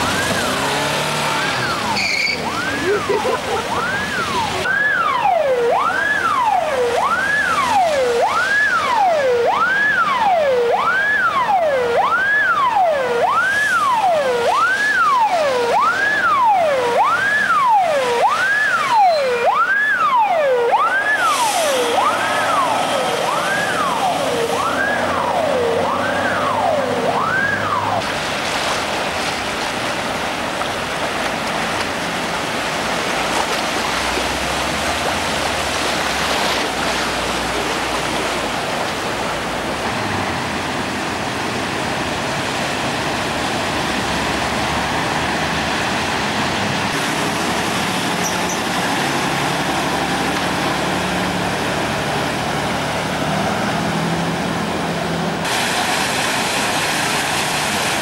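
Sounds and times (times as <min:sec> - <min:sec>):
emergency siren wailing: 0:00.0 - 0:28.2, 0:31.6 - 0:58.0
vehicles wading through water: 0:00.0 - 0:58.0.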